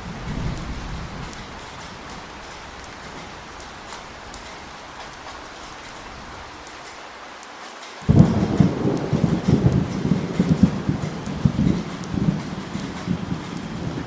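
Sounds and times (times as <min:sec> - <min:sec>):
thunderclap with low rumble: 0:00.0 - 0:06.8, 0:08.0 - 0:14.0
heavy rain hissing: 0:00.0 - 0:14.0.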